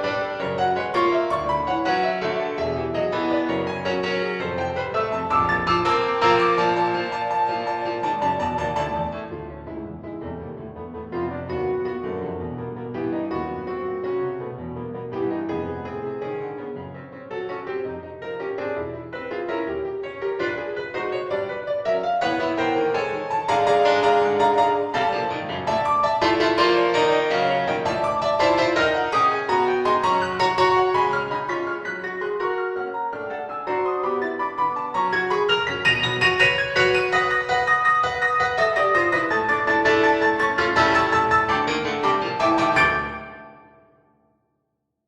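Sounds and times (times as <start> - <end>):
slow piano prelude: 0.0 - 44.3.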